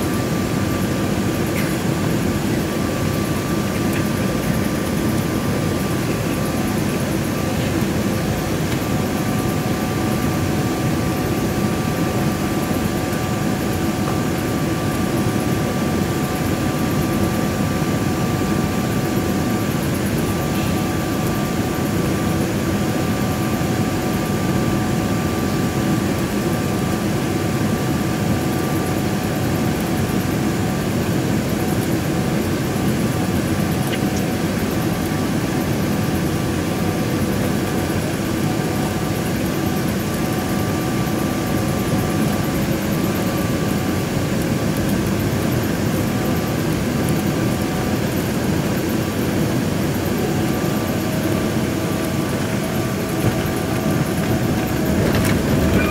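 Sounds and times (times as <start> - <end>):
jet engine drone: 0.0 - 55.9.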